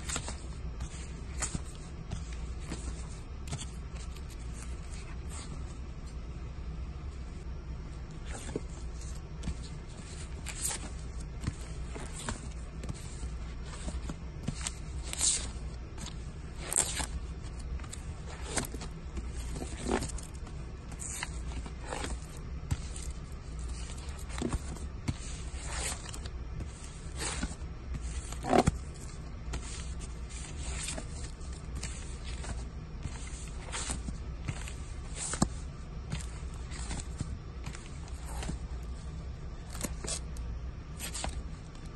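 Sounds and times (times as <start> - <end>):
record sleeves scraping and rustling: 0.0 - 6.3, 7.4 - 41.9.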